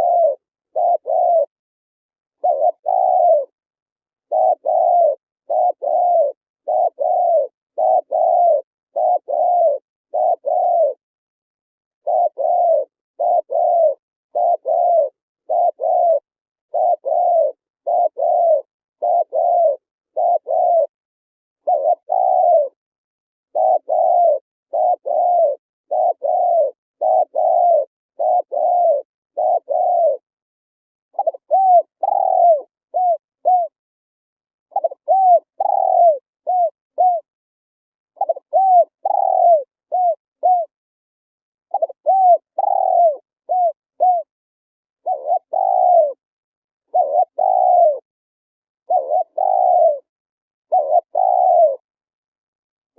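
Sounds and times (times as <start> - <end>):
dove cooing: 0.0 - 1.6, 2.4 - 3.6, 4.2 - 11.0, 12.0 - 21.0, 21.6 - 22.8, 23.5 - 30.3, 31.1 - 33.8, 34.7 - 37.3, 38.2 - 40.8, 41.7 - 44.3, 45.0 - 48.1, 48.8 - 50.1, 50.7 - 51.9.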